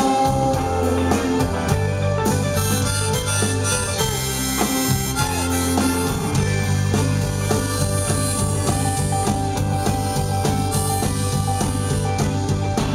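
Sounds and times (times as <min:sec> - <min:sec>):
drums: 0:00.0 - 0:12.9
electric guitar: 0:00.0 - 0:12.9
harmonica: 0:00.0 - 0:12.9.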